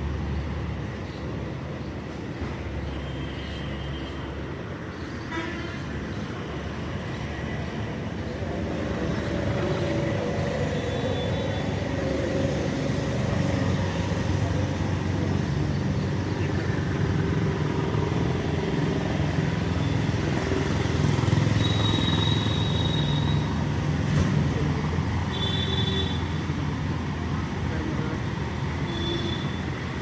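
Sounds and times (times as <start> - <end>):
rumble of passing vehicles: 0.0 - 30.0.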